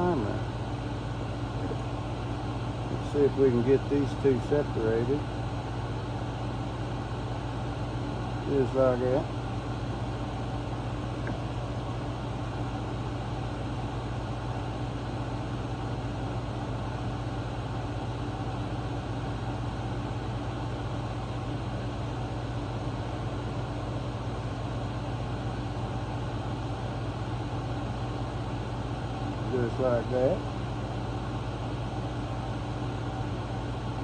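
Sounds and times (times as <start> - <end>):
air conditioner and fan hum: 0.0 - 34.0.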